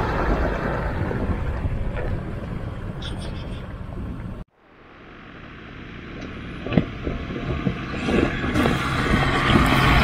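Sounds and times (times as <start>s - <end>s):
road and wind noise: 0.0s - 10.0s
vehicle engine hum: 0.0s - 10.0s.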